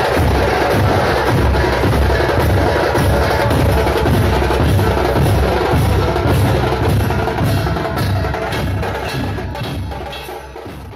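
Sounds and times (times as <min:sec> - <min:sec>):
drum percussion music: 0:00.0 - 0:10.9.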